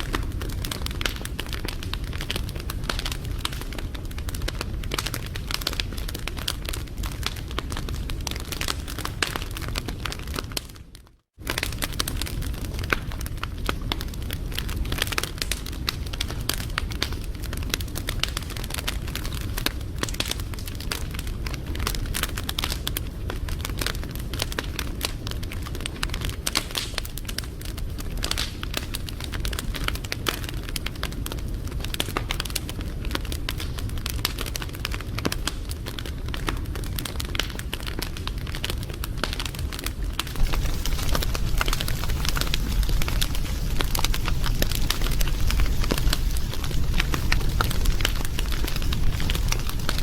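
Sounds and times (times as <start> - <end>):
low rumble of flames: 0.0 - 50.0
wood fire crackling and popping: 0.0 - 50.0.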